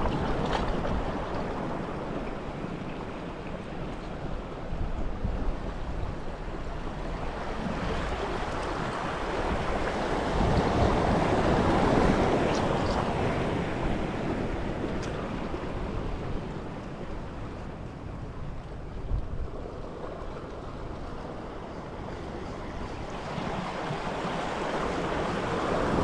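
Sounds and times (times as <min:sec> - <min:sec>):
sea waves on rocky shore: 0:00.0 - 0:26.0
wind on microphone: 0:00.0 - 0:26.0.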